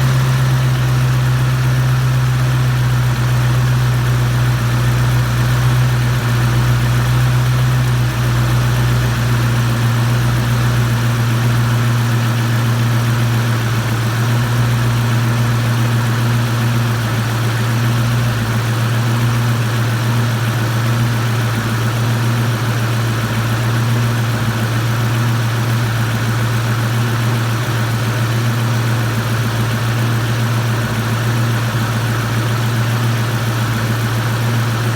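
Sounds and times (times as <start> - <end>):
car engine idling: 0.0 - 34.9
engine ticking: 0.0 - 34.9.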